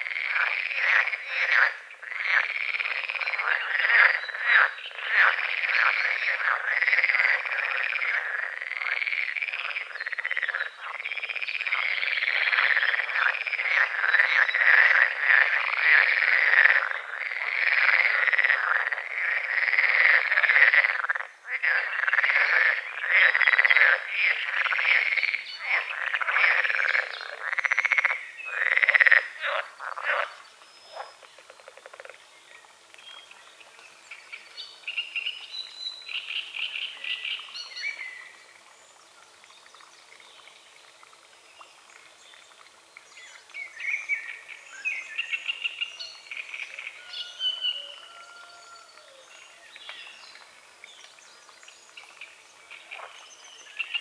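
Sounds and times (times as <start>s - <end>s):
frogs croaking in chorus: 0.0s - 35.4s, 42.9s - 54.0s.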